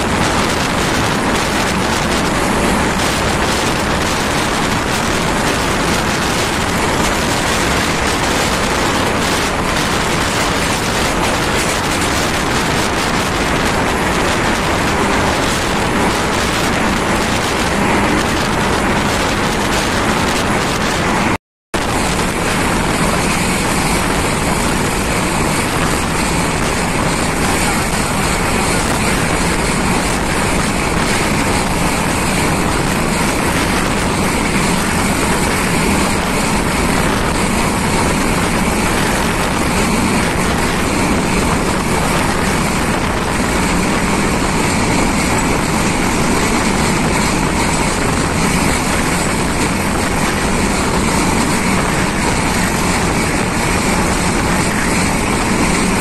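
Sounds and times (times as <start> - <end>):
moving train rushing noise: 0.0 - 56.0.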